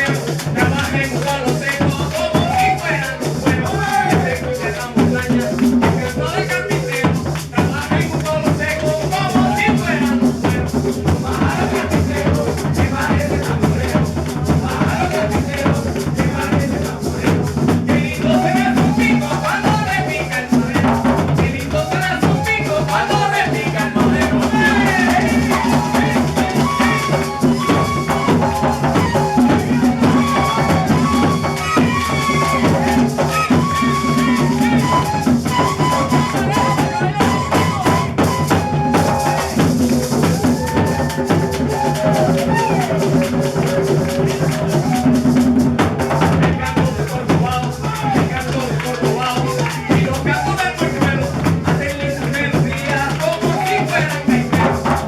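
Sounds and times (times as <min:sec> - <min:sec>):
drums keeping the beat: 0:00.0 - 0:55.0
maracas shaking: 0:00.0 - 0:55.0.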